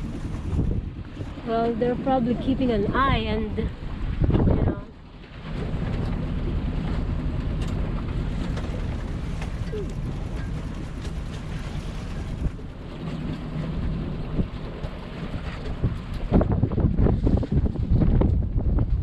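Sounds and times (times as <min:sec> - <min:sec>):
boat diesel engine running: 0:00.0 - 0:19.0
wind rushing over microphone: 0:00.0 - 0:19.0.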